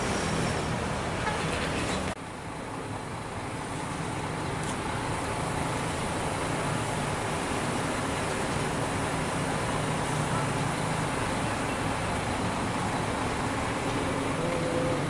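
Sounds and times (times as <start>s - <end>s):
bus engines idling: 0.0s - 15.0s
traffic noise: 0.0s - 15.0s.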